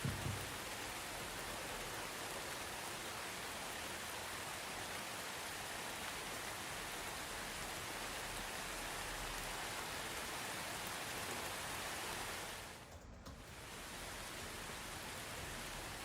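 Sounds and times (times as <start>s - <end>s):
soft rain patter: 0.0s - 16.0s.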